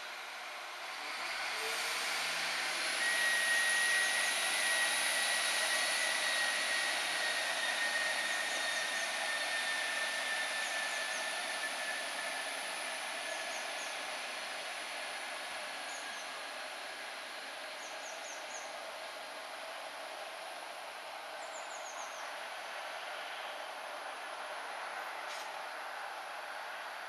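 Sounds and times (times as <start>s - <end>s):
diesel train engine pulling away: 0.0s - 27.0s
steady high whine: 0.0s - 27.0s.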